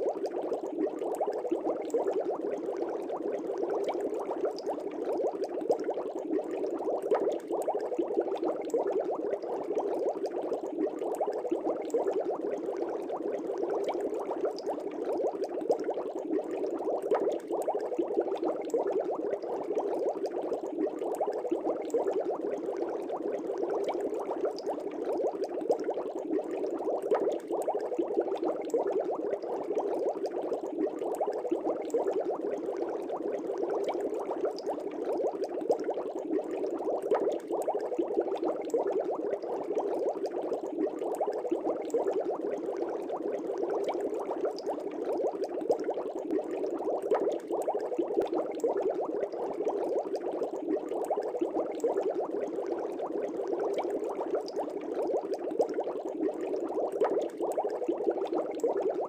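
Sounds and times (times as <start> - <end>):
aquarium air bubbling: 0.0 - 59.0.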